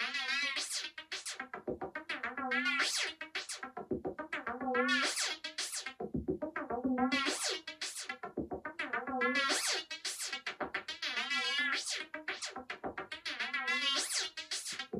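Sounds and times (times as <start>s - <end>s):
repeating electronic beat: 0.9s - 14.9s
warbling synthesizer notes: 1.4s - 14.8s.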